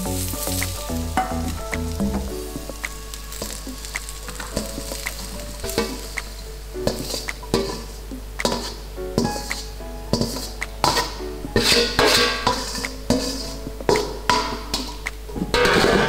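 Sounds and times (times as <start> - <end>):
vegetables sizzling: 0.0 - 16.0.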